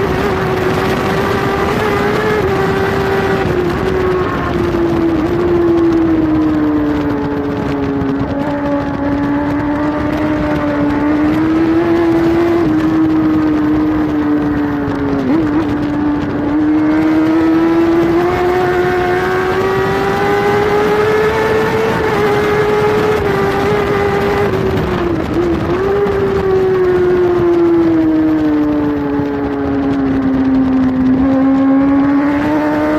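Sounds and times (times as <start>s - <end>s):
motorcycle engine at high revs: 0.0s - 32.9s
wind rush: 0.0s - 32.9s.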